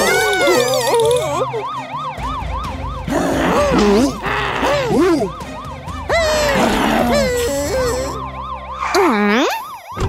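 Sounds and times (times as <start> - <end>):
background music: 0.0 - 10.0
warbling siren sound effect: 0.0 - 10.0.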